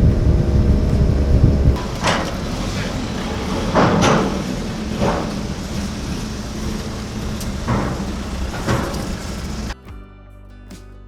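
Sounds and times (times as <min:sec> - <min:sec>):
car bumps: 0:00.0 - 0:09.8
car engine and road rumble: 0:00.0 - 0:09.8.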